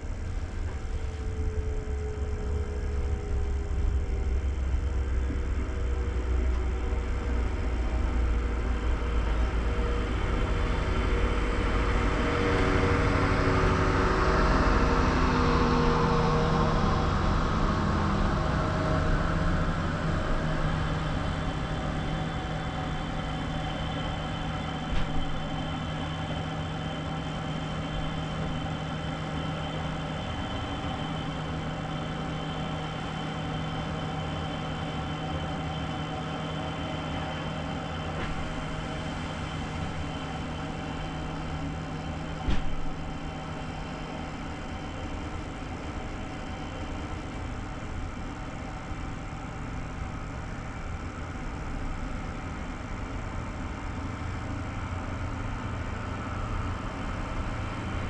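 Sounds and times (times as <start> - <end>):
railcar diesel engine passing: 0.0 - 58.0.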